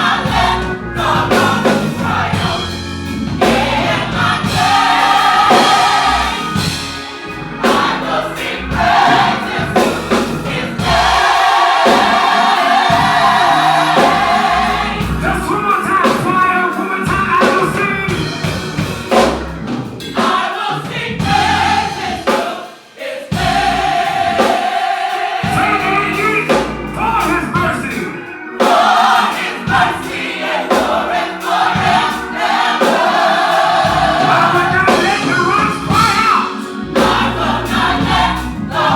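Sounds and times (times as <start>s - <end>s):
drums and bass: 0.0s - 22.3s, 23.3s - 24.7s, 25.4s - 28.1s, 32.9s - 38.9s
gospel choir singing: 0.0s - 38.9s.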